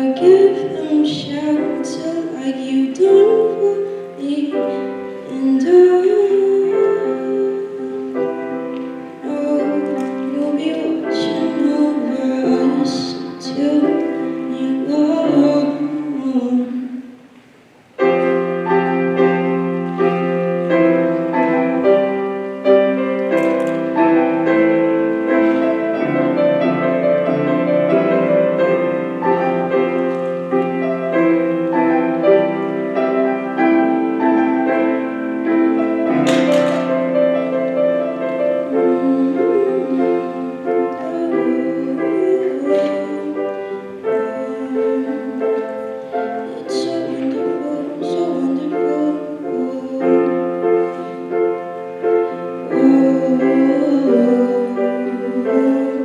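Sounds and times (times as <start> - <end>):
piano over held chords: 0.0 - 56.0.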